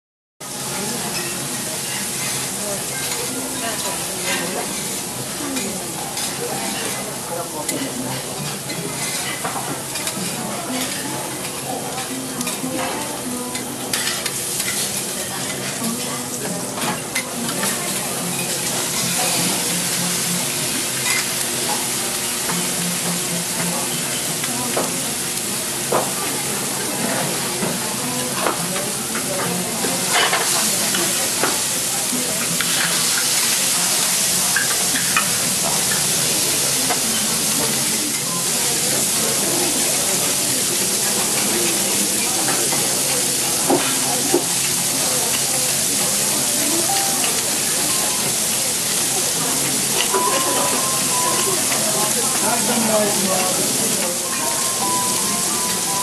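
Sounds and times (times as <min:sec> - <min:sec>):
food sizzling on a griddle: 0:00.5 - 0:56.0.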